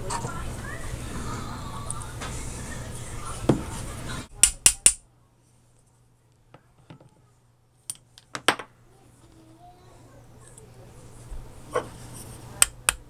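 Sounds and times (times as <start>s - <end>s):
background hiss and low hum: 0.0s - 13.0s.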